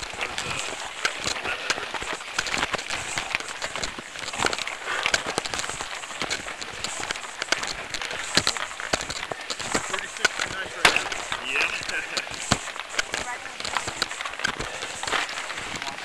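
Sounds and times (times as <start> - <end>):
stones clicking and knocking: 0.0 - 16.0
tyres crunching over rocky track: 0.0 - 16.0.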